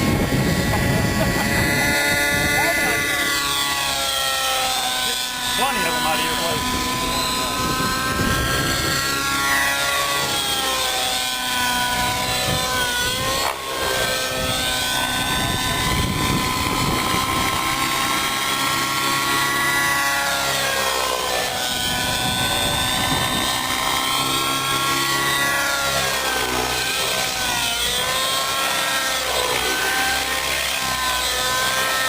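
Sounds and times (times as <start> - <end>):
model helicopter engine and rotor whine: 0.0 - 32.0.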